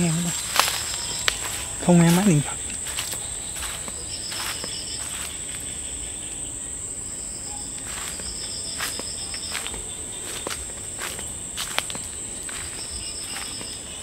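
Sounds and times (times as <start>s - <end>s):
footsteps on forest path: 0.0s - 6.0s, 7.7s - 14.0s
high-pitched insect drone: 0.0s - 14.0s
insect trilling: 0.0s - 14.0s.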